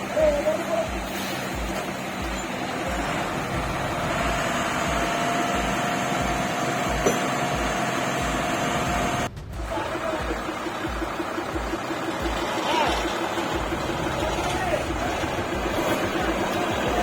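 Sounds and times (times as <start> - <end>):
lorry diesel engine whining: 0.0 - 17.0.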